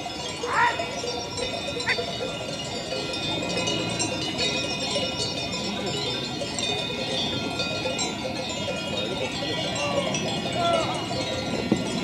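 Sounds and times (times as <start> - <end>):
animal bells clinking: 0.0 - 12.0.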